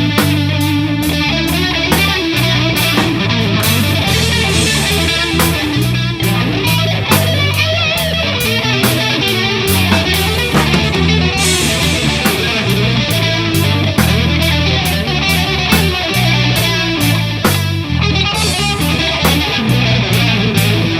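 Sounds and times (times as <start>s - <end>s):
bass guitar line: 0.0s - 20.9s
drum kit with cymbals: 0.0s - 20.9s
electric guitar lead: 0.0s - 20.9s.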